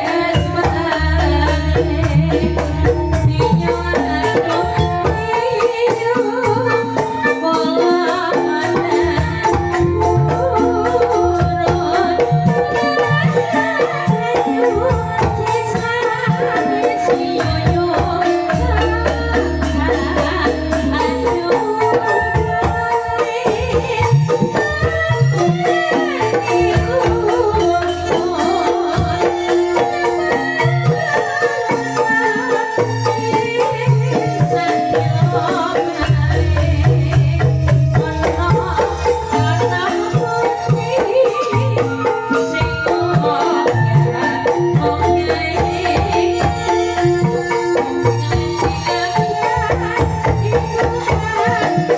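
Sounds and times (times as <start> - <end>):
bamboo xylophones playing: 0.0 - 51.9
drums: 0.0 - 51.9
held pitched lines: 0.0 - 51.9.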